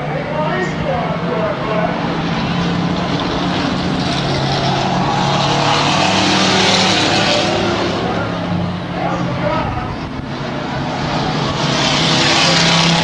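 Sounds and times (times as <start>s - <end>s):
race truck engines droning: 0.0s - 13.0s.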